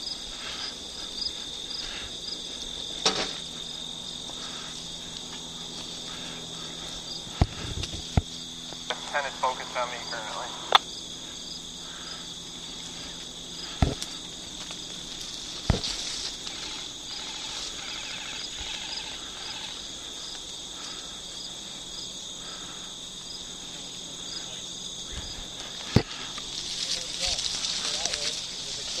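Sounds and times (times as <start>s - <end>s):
crickets and insects chirping: 0.0s - 29.0s.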